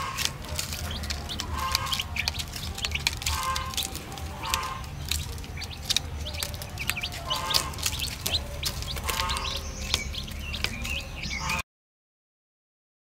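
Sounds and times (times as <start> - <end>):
baby chicks peeping: 0.0 - 11.6
beaks pecking at feed: 0.0 - 11.6.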